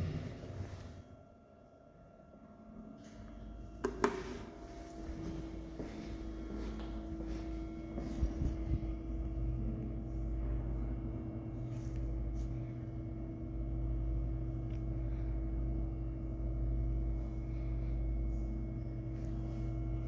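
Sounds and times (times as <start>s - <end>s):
lift machine hum and rumble: 0.0s - 20.0s.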